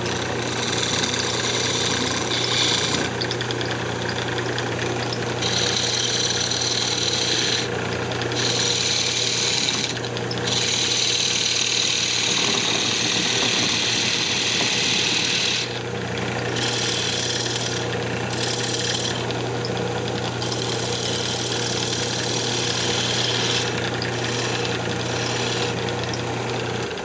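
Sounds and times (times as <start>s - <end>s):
turning tool cutting wood: 0.0s - 27.0s
wood lathe motor hum: 0.0s - 27.0s.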